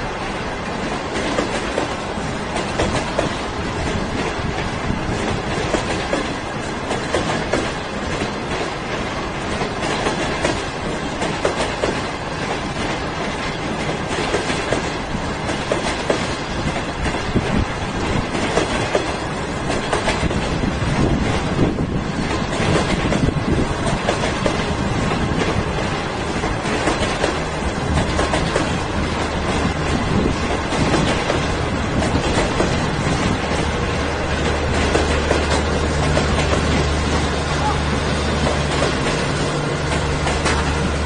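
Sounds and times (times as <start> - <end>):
train wheels on rails: 0.0 - 41.0
wheels clacking over rails: 0.0 - 41.0.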